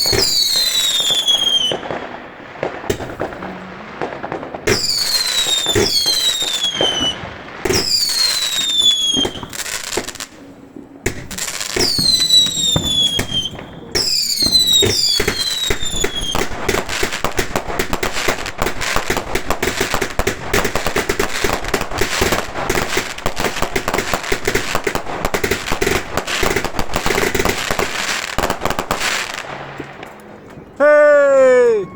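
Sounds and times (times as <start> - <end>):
firework whistles: 0.0 - 2.0, 4.6 - 10.2, 11.1 - 29.2
rapid firework crackling: 0.0 - 10.5, 11.1 - 30.1
firework bangs: 0.0 - 30.8.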